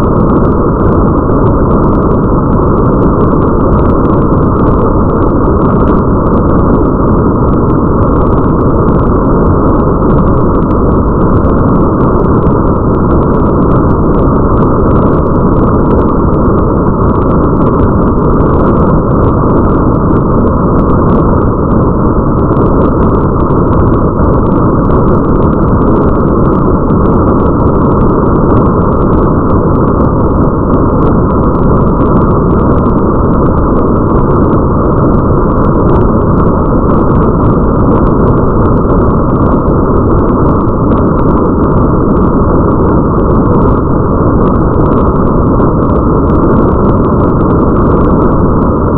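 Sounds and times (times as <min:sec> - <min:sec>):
muffled rain: 0:00.0 - 0:48.9.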